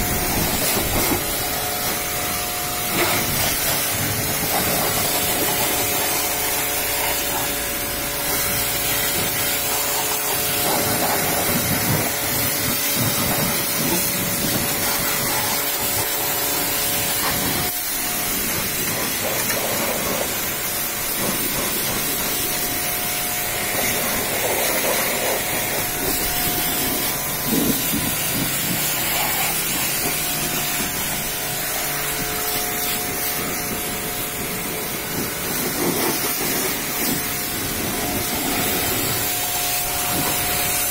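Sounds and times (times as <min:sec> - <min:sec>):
pressure washer water jet hissing: 0:00.0 - 0:40.9.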